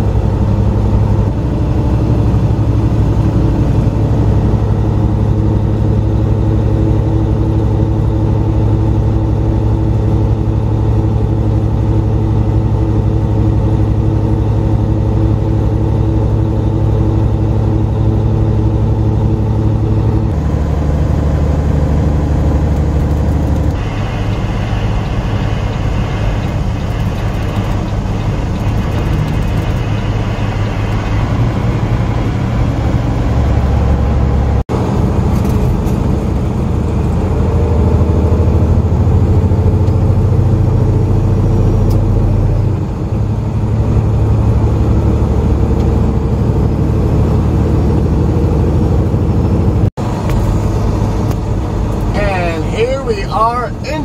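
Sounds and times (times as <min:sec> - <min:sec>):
diesel truck engine droning: 0:00.0 - 0:54.0
road noise: 0:00.0 - 0:54.0.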